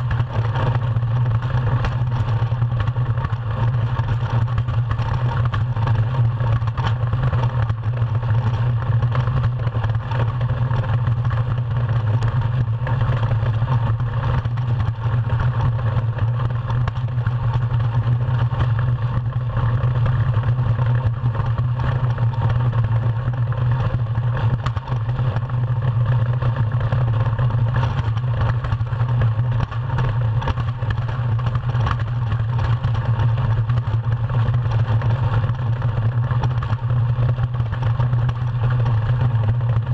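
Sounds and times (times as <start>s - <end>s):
small clatters from bumps: 0.0s - 39.9s.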